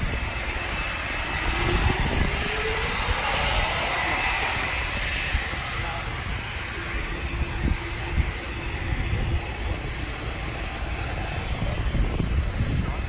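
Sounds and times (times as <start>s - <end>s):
rising tone: 0.0s - 11.9s
jet engines rumbling and whining: 0.0s - 13.0s.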